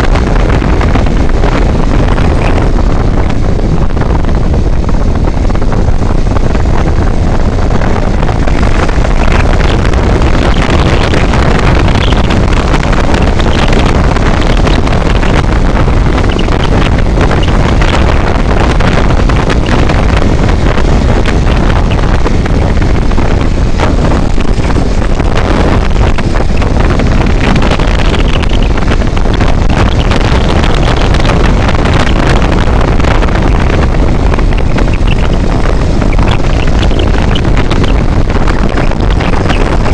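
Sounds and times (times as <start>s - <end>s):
vehicle engine and road noise: 0.0s - 39.9s
wind buffeting microphone: 0.0s - 39.9s.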